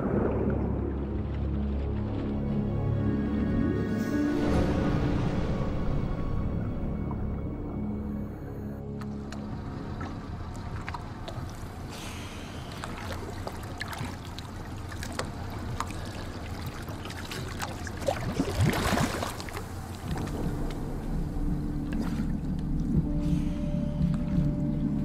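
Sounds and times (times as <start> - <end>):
low steady hum: 0.0 - 25.0
water sloshing and splashing: 0.0 - 25.0.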